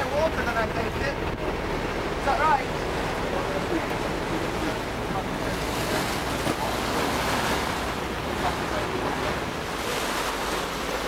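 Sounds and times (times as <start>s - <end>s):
water rushing along hull: 0.0s - 11.0s.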